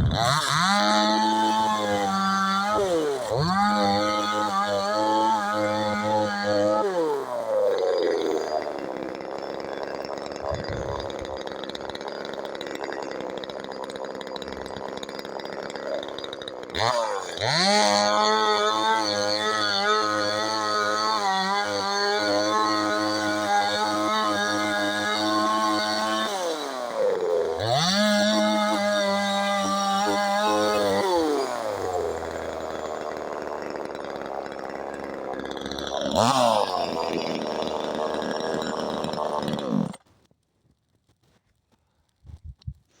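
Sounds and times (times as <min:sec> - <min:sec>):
chainsaw idling and revving: 0:00.0 - 0:40.0.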